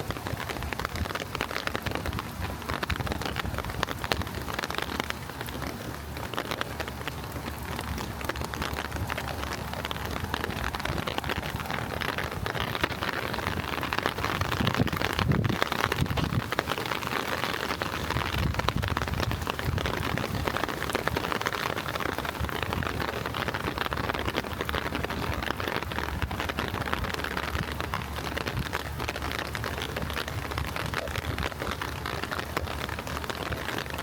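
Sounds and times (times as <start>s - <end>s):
rain pattering: 0.0s - 34.0s
low rumbling: 0.2s - 33.8s.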